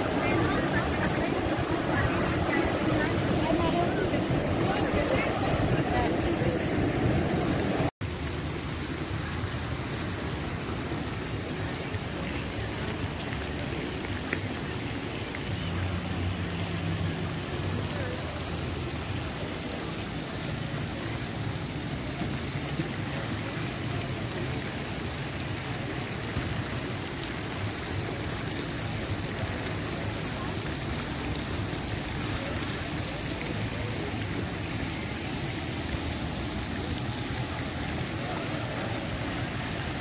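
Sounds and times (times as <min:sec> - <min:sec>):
faint voices: 0:00.0 - 0:07.9, 0:09.2 - 0:40.0
fountains splashing into pool: 0:00.0 - 0:40.0.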